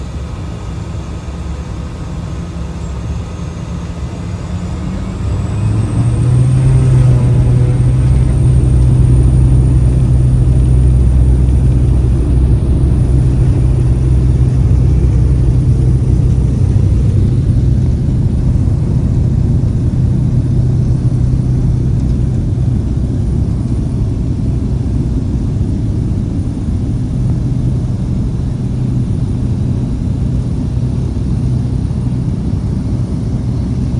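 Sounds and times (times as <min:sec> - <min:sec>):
propeller aircraft engine drone: 0:00.0 - 0:33.9.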